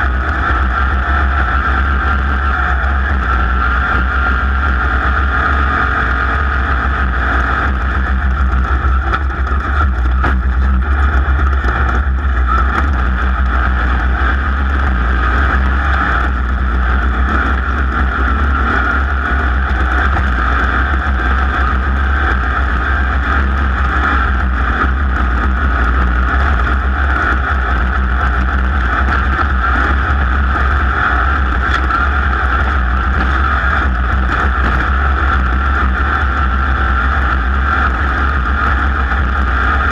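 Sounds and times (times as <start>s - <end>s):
race car engine rumbling: 0.0s - 39.9s.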